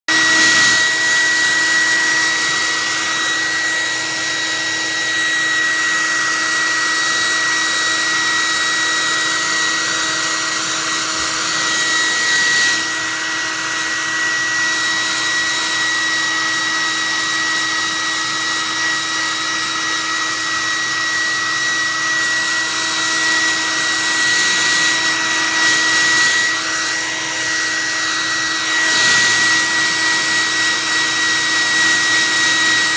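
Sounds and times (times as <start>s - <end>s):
hair dryer running: 0.1s - 32.9s.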